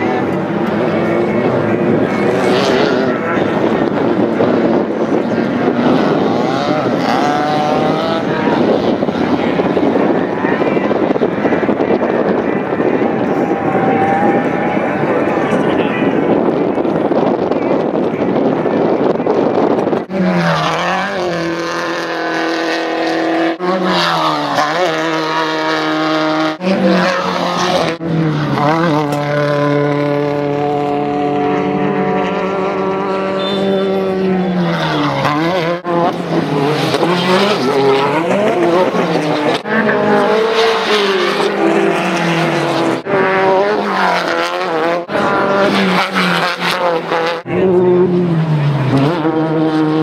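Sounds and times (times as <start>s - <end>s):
buggy engines revving: 0.0s - 50.0s.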